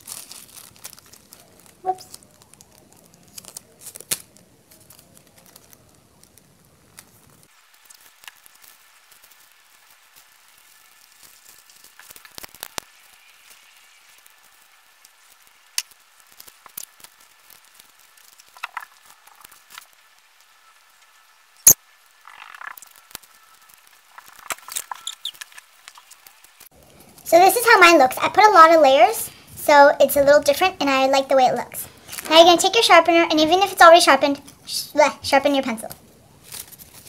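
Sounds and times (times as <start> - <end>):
tape crackling and rustling: 0.0 - 37.0.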